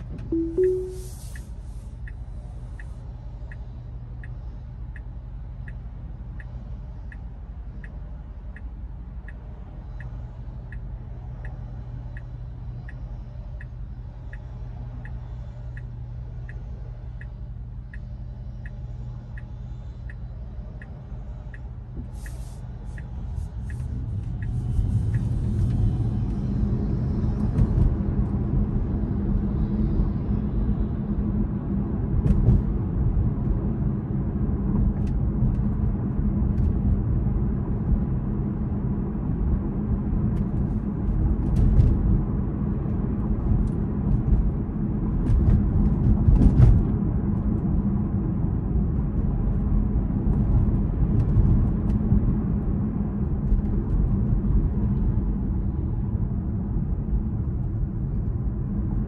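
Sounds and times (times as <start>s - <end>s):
road and tyre rumble: 0.0s - 59.0s.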